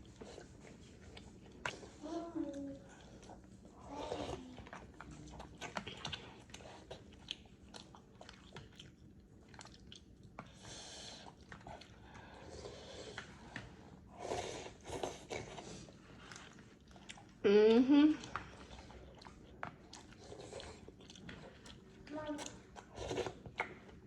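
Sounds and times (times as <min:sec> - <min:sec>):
wet chewing with mouth clicks: 0:00.0 - 0:24.0.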